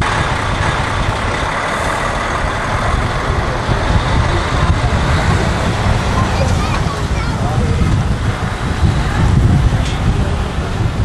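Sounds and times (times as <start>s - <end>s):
heavy truck engine rumble: 0.0s - 11.0s
tyre and road noise: 0.0s - 11.0s.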